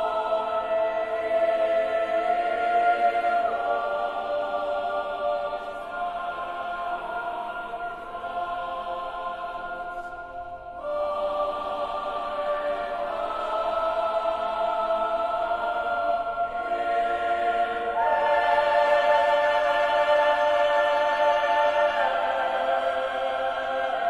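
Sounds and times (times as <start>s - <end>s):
slow choral chords: 0.0s - 24.0s.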